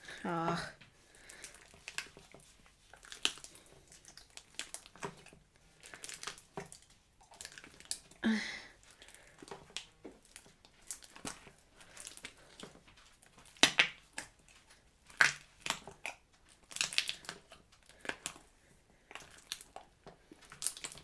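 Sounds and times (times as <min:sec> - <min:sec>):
slime squelching: 0:00.0 - 0:21.0.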